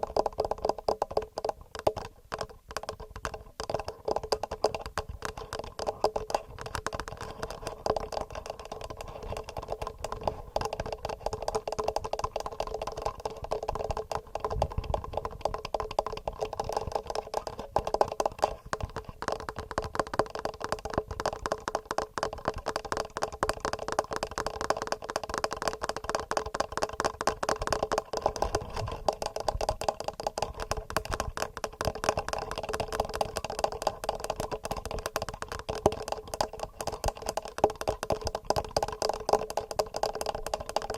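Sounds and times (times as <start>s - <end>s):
fingernail tapping on microphone: 0.0s - 40.9s.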